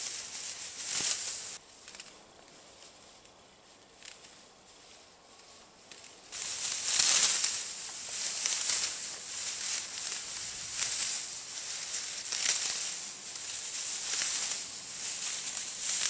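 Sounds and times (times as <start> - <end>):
dry grass rustling and crackling: 0.0 - 16.0.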